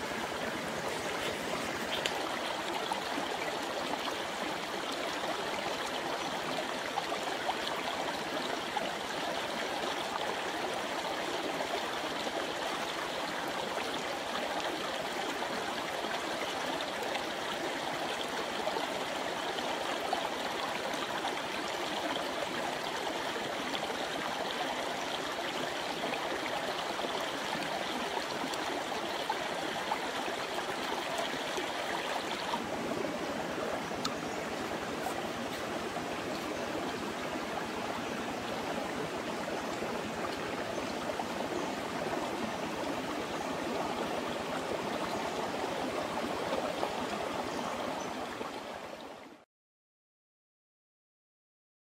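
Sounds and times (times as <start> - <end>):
stream running over rocks: 0.0 - 49.4.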